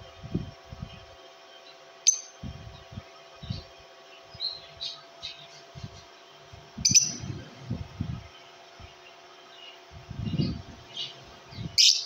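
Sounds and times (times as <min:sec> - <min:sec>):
birds chirping high-pitched: 0:00.0 - 0:12.0.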